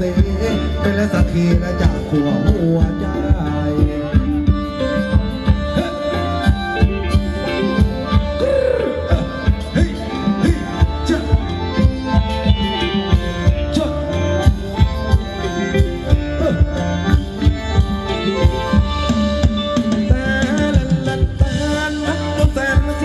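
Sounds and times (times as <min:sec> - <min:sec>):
live dance band playing: 0:00.0 - 0:23.0.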